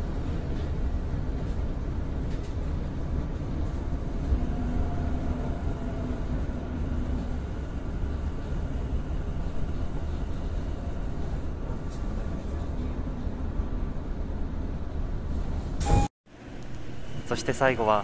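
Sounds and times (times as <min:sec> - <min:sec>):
train running rumble: 0:00.0 - 0:15.9.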